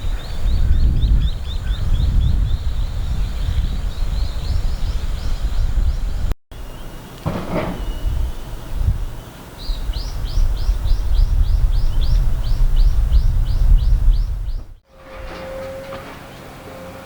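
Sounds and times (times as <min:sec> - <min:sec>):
steady low rumble: 0:00.0 - 0:15.3.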